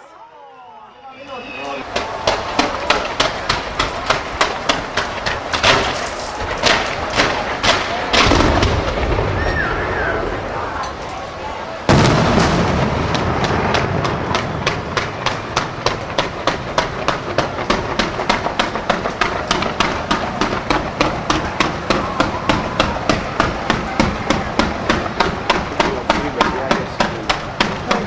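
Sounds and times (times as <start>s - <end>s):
overlapping fireworks reports: 0.9s - 28.0s
fireworks bangs: 1.2s - 28.0s.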